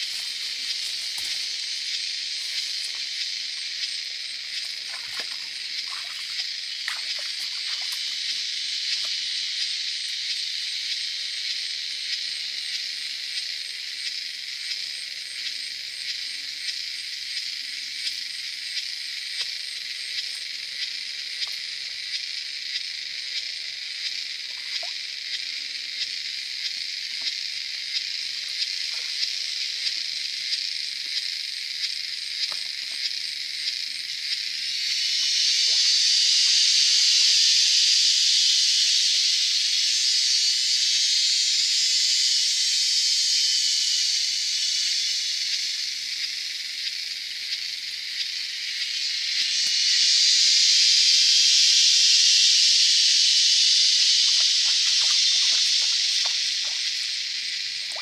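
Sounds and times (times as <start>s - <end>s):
insects buzzing in chorus: 0.0s - 58.0s.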